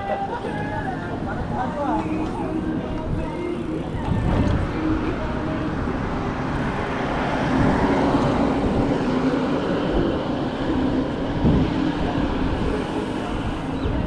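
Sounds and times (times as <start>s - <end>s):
strong wind on microphone: 0.6s - 14.0s.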